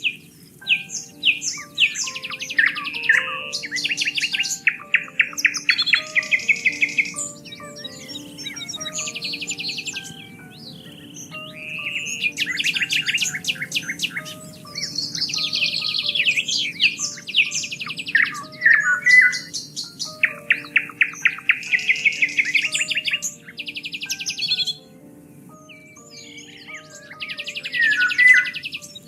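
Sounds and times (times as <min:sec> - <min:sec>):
birds chirping and trilling: 0:00.0 - 0:29.0
soft music of low held notes: 0:00.0 - 0:29.0.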